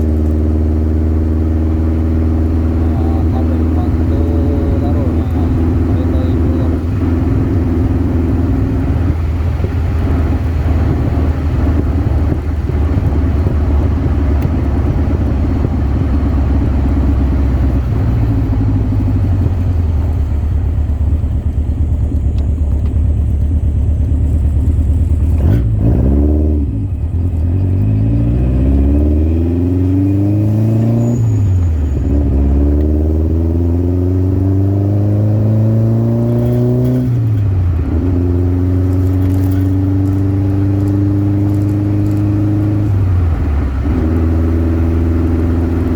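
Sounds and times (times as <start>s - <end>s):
car engine accelerating through gears: 0.0s - 45.9s.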